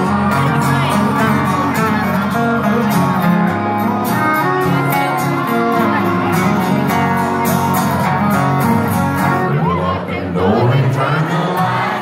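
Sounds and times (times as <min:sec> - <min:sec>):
fiddle: 0:00.0 - 0:10.0
live country band: 0:00.0 - 0:12.0
strummed acoustic guitar: 0:00.0 - 0:12.0.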